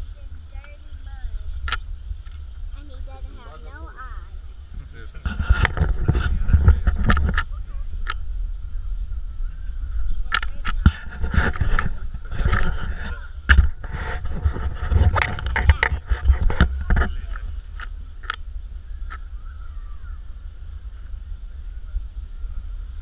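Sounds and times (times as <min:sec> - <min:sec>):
wind and handling noise rumbling: 0:00.0 - 0:23.0.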